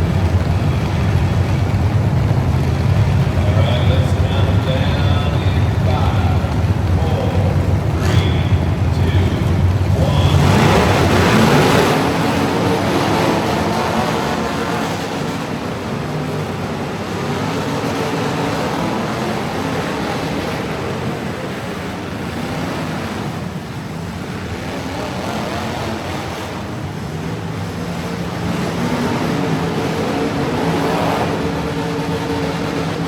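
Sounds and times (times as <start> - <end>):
broad rushing noise: 0.0 - 33.0
truck engine running hard: 0.0 - 33.0.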